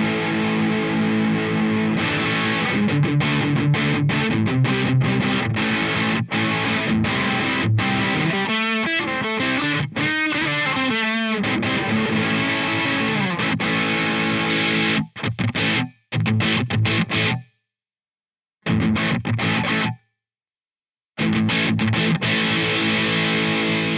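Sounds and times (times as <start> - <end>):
distorted electric guitar: 0.0 - 17.5, 18.7 - 20.0, 21.2 - 23.9.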